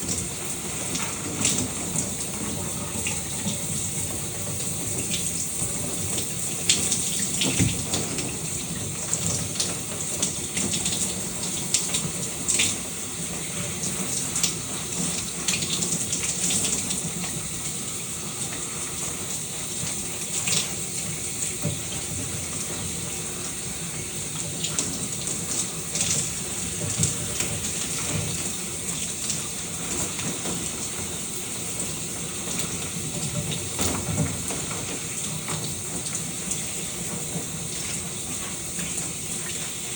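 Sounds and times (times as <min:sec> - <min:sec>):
shower water running: 0:00.0 - 0:39.9.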